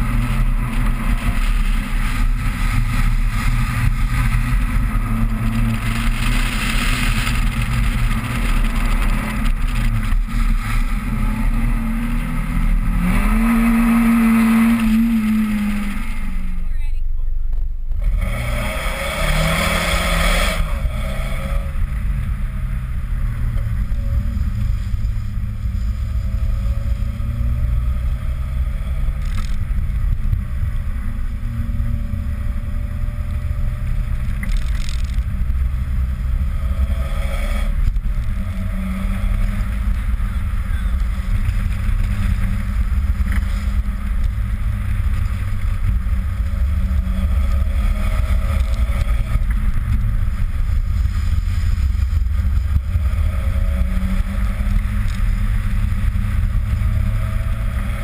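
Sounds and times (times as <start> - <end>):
car engine low rumble: 0.0 - 58.0.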